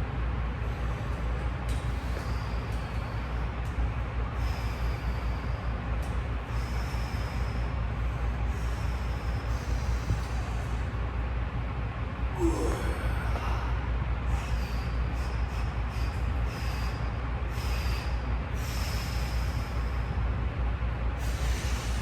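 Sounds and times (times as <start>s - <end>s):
steady low hum: 0.0s - 22.0s
sharp hissing breaths: 0.6s - 10.9s, 12.4s - 20.2s, 21.2s - 22.0s.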